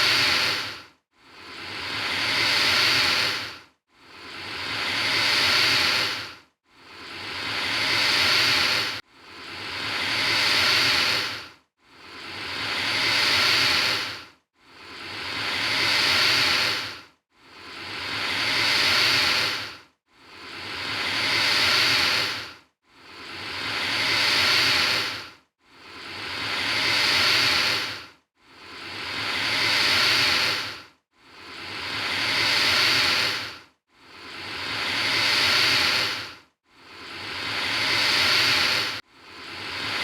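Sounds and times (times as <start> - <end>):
alligator hissing: 0.0 - 0.8, 1.4 - 3.5, 4.2 - 6.3, 6.9 - 9.0, 9.6 - 11.4, 12.1 - 14.2, 14.8 - 17.0, 17.7 - 25.2, 26.0 - 28.0, 28.7 - 30.8, 31.4 - 33.6, 34.3 - 40.0.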